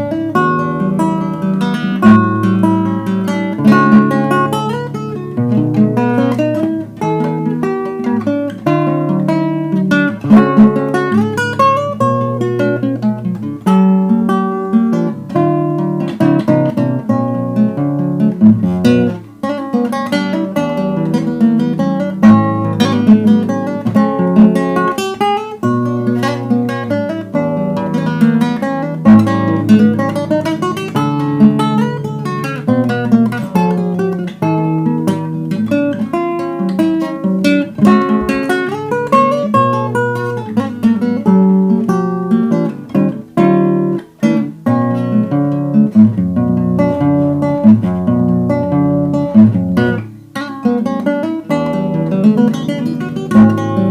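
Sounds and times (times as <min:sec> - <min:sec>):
acoustic guitar playing: 0:00.0 - 0:53.9.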